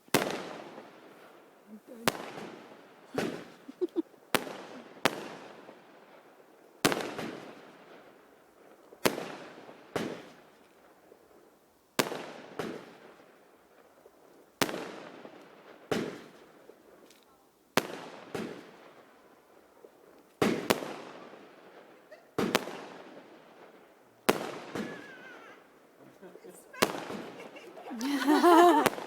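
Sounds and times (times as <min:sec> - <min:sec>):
fireworks exploding: 0:00.1 - 0:10.6, 0:12.0 - 0:13.4, 0:14.6 - 0:17.0, 0:17.8 - 0:29.0.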